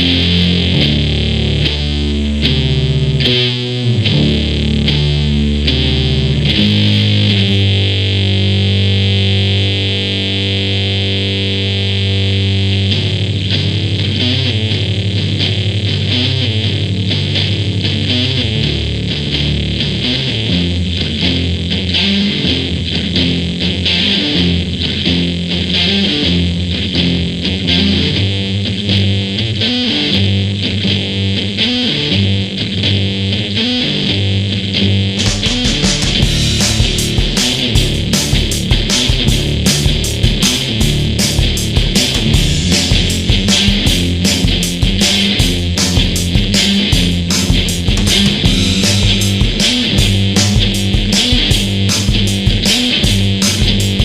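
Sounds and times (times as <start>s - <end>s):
distorted electric guitar: 0.0s - 54.0s
rock drums: 0.0s - 54.0s.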